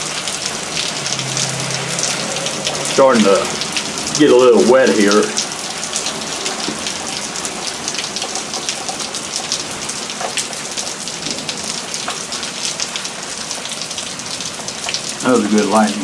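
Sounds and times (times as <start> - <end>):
heavy rain: 0.0 - 16.0
raindrop hits close by: 0.0 - 16.0.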